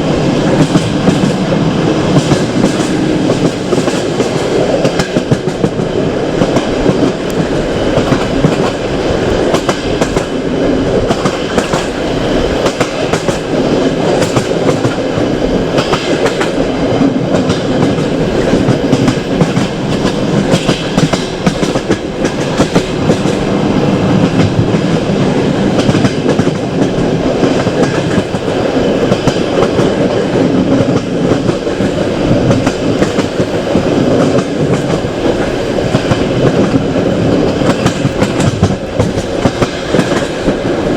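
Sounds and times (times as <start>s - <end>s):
train carriage rumbling: 0.0s - 40.9s.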